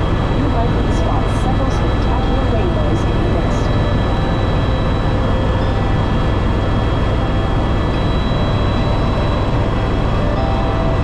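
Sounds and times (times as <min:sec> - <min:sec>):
helicopter rotor drone: 0:00.0 - 0:11.0
high engine whine: 0:00.0 - 0:11.0.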